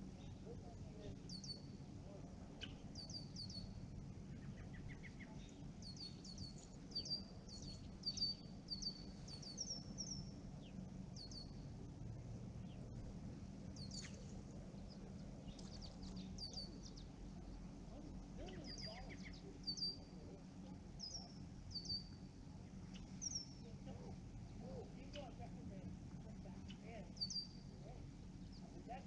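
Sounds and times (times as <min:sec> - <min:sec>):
songbirds chirping: 0:00.0 - 0:29.0
steady low hum: 0:00.0 - 0:29.0.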